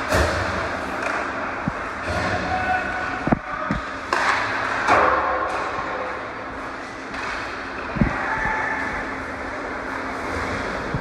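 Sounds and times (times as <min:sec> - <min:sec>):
background noise wash: 0:00.0 - 0:11.0.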